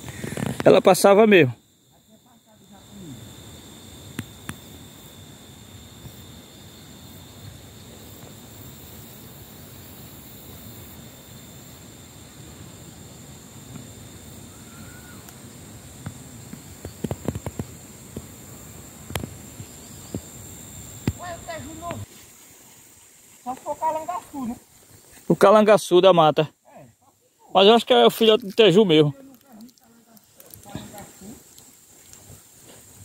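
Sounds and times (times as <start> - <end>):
insect drone: 0.0 - 33.0.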